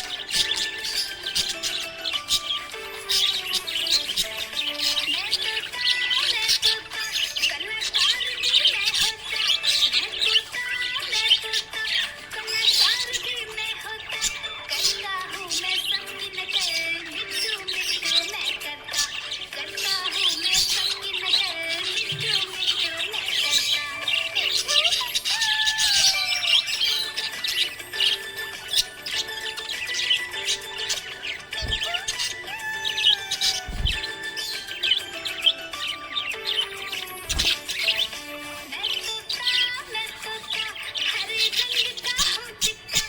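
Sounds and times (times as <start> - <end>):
background music: 0.0 - 43.0
budgerigar chirping: 0.0 - 43.0.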